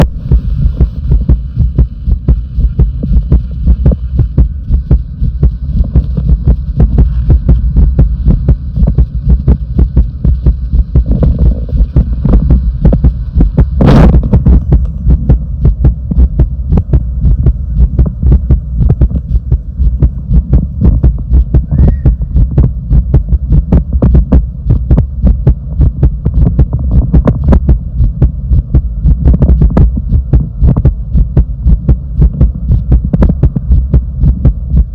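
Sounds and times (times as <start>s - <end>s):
constant low hum: 0.0s - 34.9s
heartbeat thumps: 0.0s - 34.9s.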